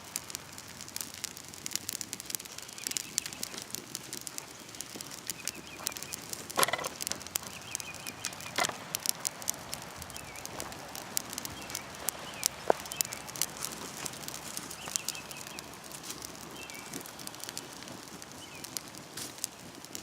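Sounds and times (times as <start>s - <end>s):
birds chirping faintly: 0.0s - 20.0s
wood fire crackling and popping: 0.0s - 20.0s.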